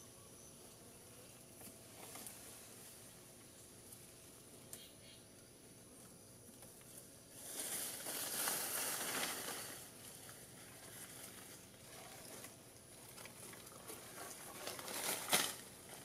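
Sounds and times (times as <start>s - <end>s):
leaves and branches rustling: 1.5s - 4.8s, 6.0s - 16.0s.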